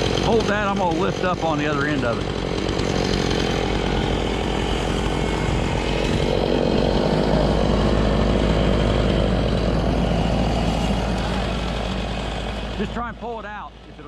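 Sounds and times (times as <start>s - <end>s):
engine running at high speed: 0.0s - 14.0s.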